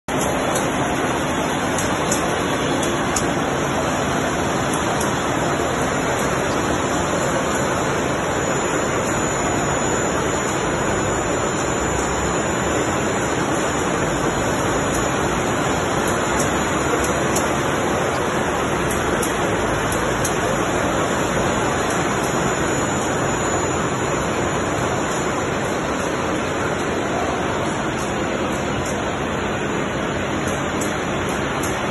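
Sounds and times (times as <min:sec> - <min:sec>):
machinery hum: 0:00.1 - 0:31.9.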